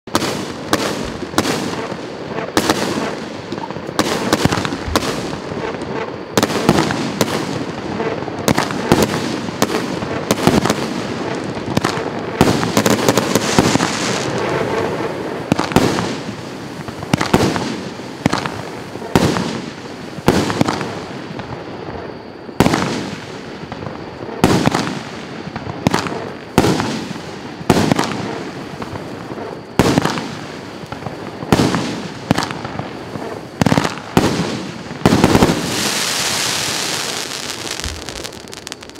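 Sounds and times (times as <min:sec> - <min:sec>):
firework bangs: 0:00.1 - 0:38.9
firework crackling: 0:00.1 - 0:38.9.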